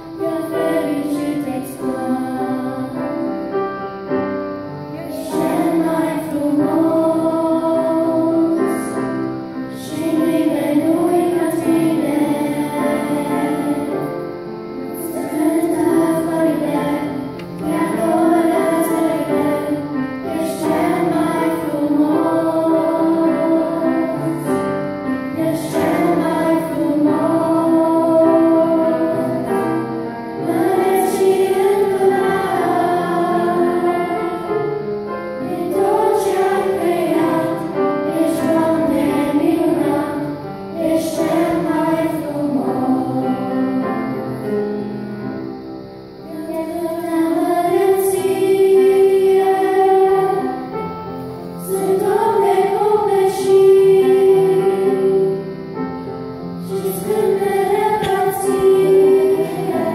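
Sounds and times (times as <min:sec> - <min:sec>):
children singing into microphones: 0:00.0 - 0:59.9.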